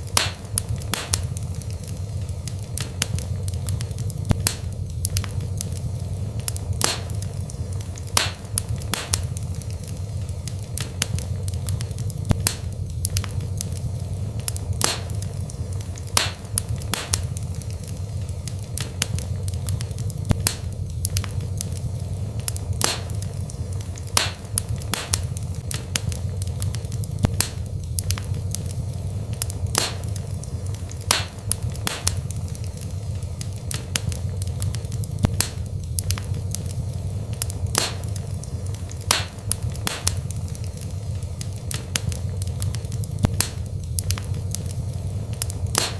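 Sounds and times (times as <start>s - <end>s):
fire rumbling: 0.0s - 45.9s
logs crackling and popping: 0.0s - 45.9s.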